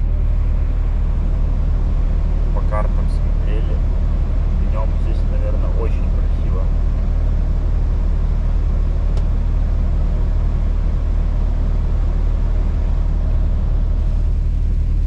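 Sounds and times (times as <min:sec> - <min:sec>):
truck engine and road drone: 0:00.0 - 0:15.0.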